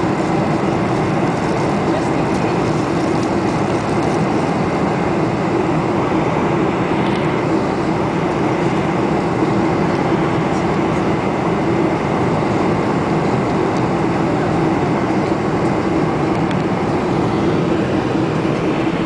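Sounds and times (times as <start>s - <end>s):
airplane cabin noise: 0.0s - 19.0s
steady low hum: 0.0s - 19.0s.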